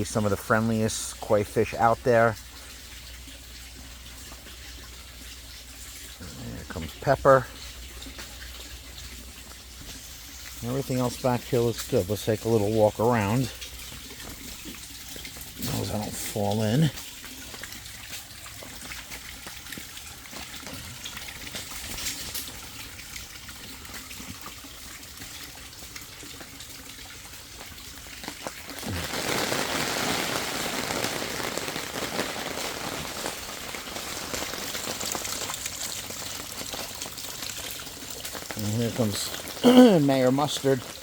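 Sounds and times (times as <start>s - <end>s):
water splashing in a pond: 0.0s - 41.0s.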